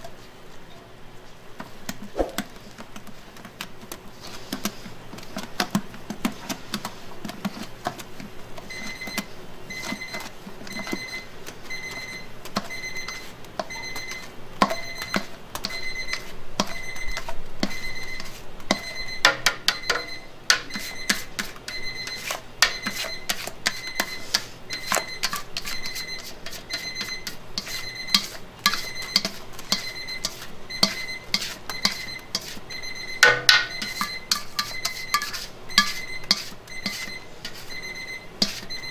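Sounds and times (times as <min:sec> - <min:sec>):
spatula scraping metal bowl: 0:04.2 - 0:38.9.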